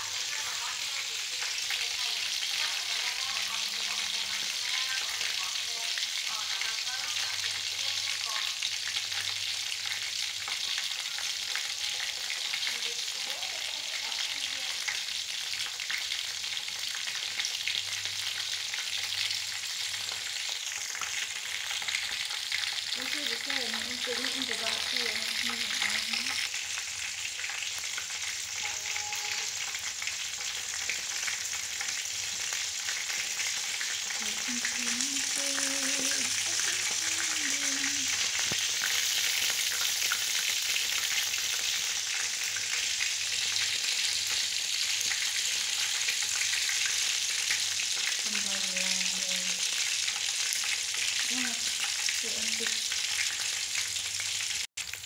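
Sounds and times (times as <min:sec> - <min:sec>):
meat sizzling in hot oil: 0:00.0 - 0:55.0.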